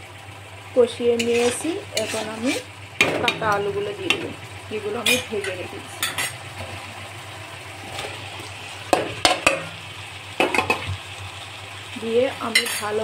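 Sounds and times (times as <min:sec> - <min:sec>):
masala sizzling in a wok: 0:00.0 - 0:13.0.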